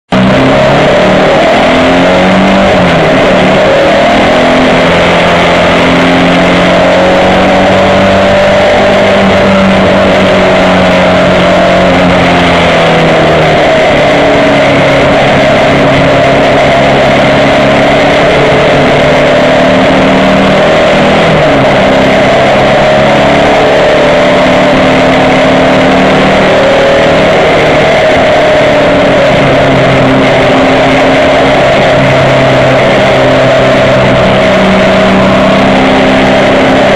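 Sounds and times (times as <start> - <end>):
car engine revving hard: 0.0 - 36.9
road and wind noise: 0.0 - 36.9.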